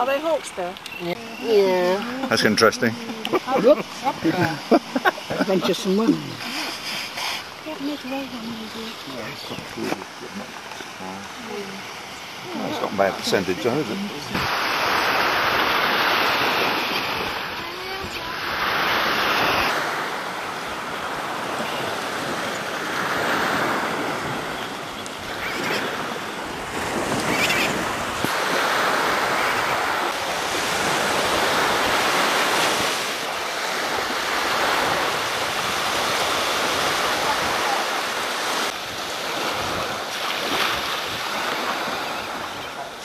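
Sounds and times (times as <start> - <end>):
sea waves breaking on shore: 0.0 - 43.0.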